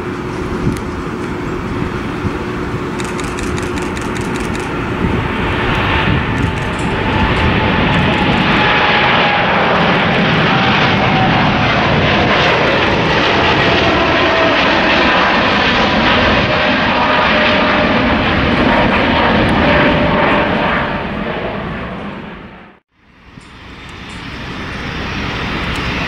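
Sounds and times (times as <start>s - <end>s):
jet engines roaring at take-off: 0.0s - 26.0s.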